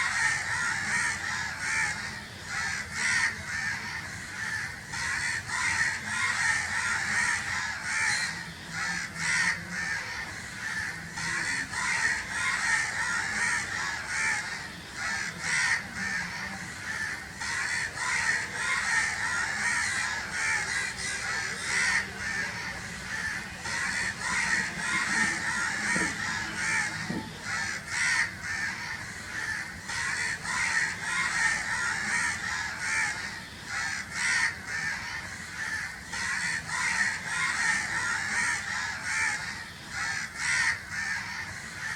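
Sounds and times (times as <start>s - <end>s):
crows cawing: 0.0s - 41.9s.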